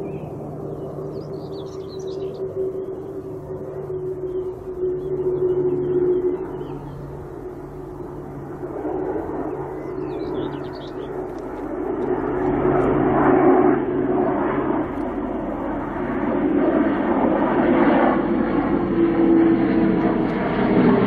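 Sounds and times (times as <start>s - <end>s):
turboprop aircraft in flight: 0.0s - 21.0s.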